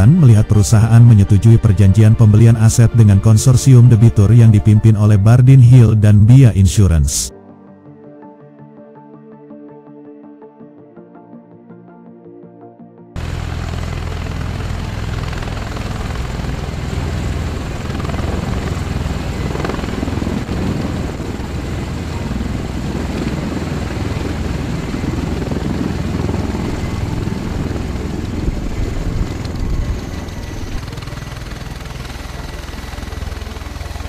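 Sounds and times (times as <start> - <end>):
helicopter flying: 0.0 - 7.2, 13.2 - 34.0.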